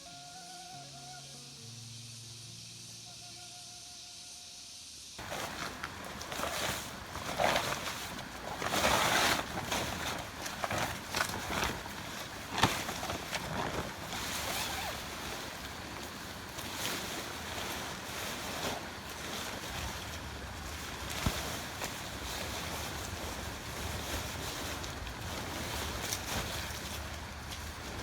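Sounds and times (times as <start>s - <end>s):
rustling: 5.2s - 28.0s.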